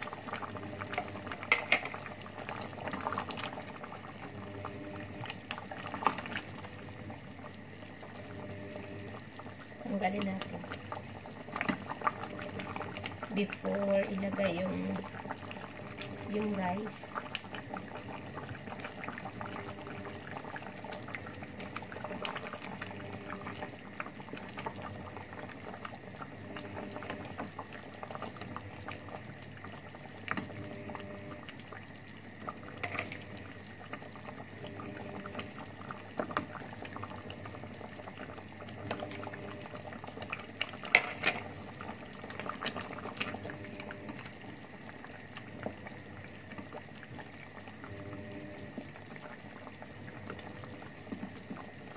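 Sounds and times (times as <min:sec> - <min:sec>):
stew bubbling in a pot: 0:00.0 - 0:51.9.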